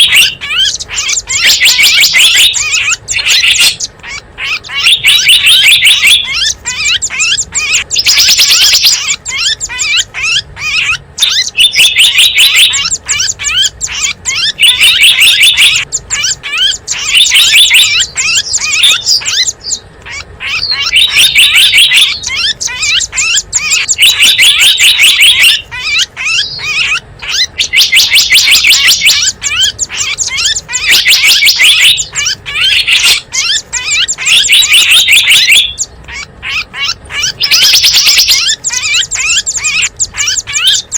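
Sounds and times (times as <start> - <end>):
fast high bird chirps: 0.0 - 40.9.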